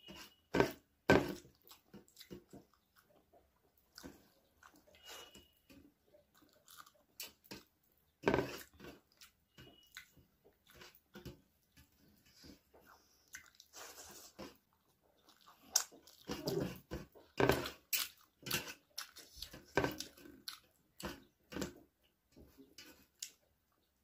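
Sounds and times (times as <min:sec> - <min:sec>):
chewing and wet mouth sounds: 0:01.4 - 0:22.0, 0:22.6 - 0:24.0.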